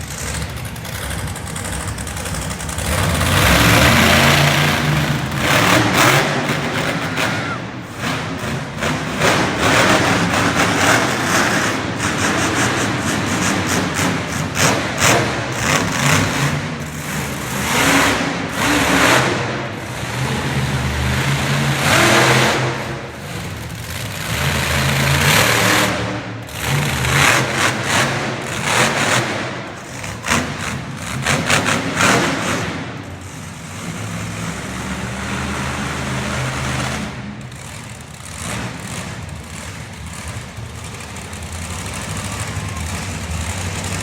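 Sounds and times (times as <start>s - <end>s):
truck engine revving hard: 0.0s - 44.0s.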